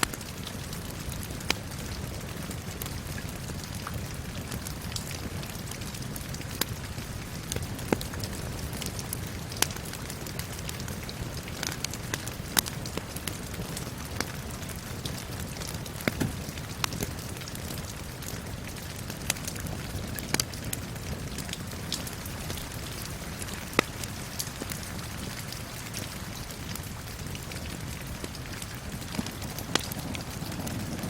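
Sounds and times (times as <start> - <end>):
steady rain: 0.0 - 31.0
wood fire crackling and popping: 0.0 - 31.0.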